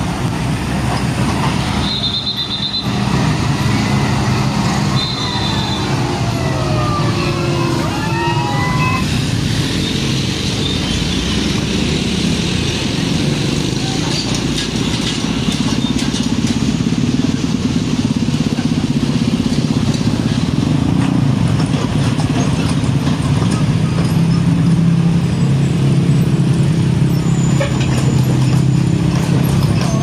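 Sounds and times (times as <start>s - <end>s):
diesel truck engine droning: 0.0s - 30.0s.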